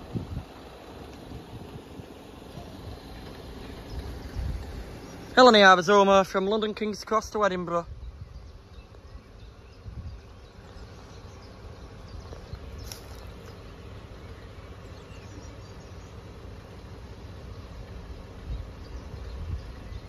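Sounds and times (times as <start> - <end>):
low uneven rumble: 0.0 - 20.0.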